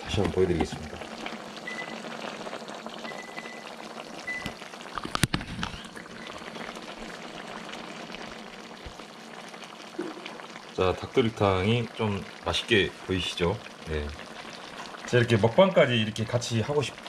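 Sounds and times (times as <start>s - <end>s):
stew bubbling and sizzling in a wok: 0.0s - 17.0s.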